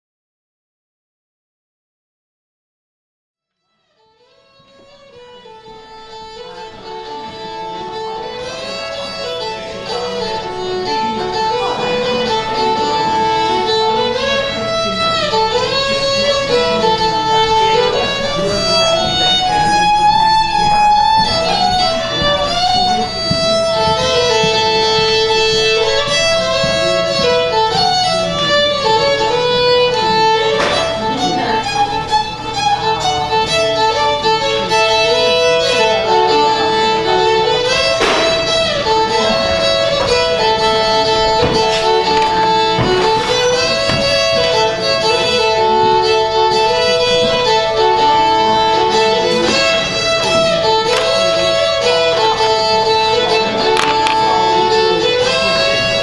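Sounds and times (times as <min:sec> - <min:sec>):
solo fiddle melody: 0:03.6 - 0:56.0.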